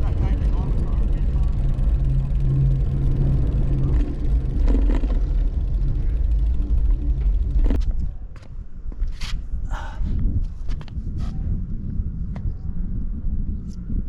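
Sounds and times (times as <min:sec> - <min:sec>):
low vehicle rumble: 0:00.0 - 0:14.0.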